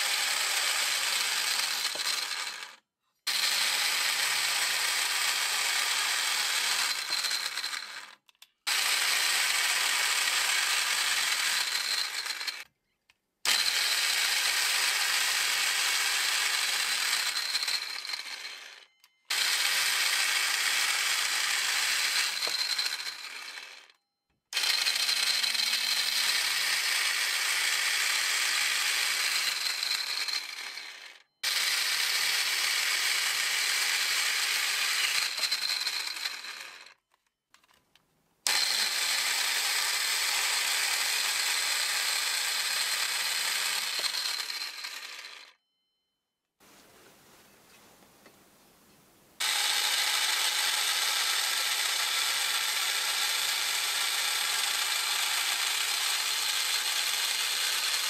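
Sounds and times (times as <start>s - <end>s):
circular saw cutting wood: 0.0s - 12.7s, 13.5s - 37.0s, 38.5s - 45.6s, 49.4s - 58.0s.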